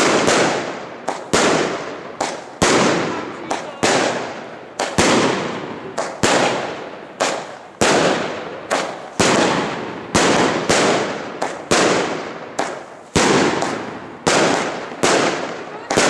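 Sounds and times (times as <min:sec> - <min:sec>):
firework shells launching and bursting: 0:00.0 - 0:16.0.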